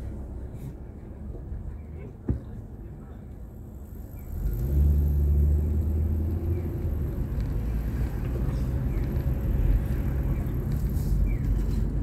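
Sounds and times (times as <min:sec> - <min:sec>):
car engine rumble from cabin: 0:00.0 - 0:12.0.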